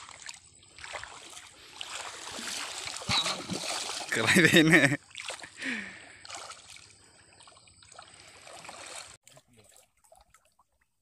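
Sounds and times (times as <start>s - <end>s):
river water sloshing and trickling: 0.0s - 11.0s.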